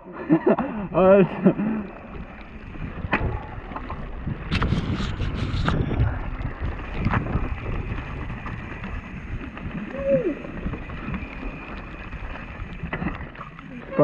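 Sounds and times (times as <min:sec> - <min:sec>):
bike knocking and rattling: 0:00.4 - 0:14.0
bike tyres rolling on wet gravel: 0:00.4 - 0:14.0
wind on microphone: 0:02.0 - 0:14.0.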